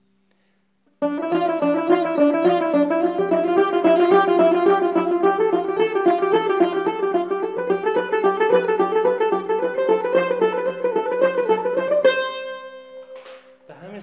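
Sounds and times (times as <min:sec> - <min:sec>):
plucked lute notes: 0:01.0 - 0:13.7.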